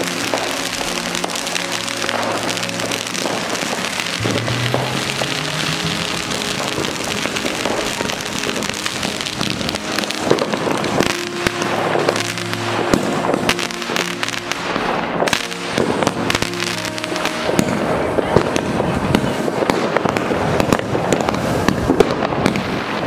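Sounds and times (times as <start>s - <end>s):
fireworks crackling and banging: 0.0s - 23.0s
music with held notes: 0.0s - 23.0s
sparks hissing: 0.0s - 23.0s.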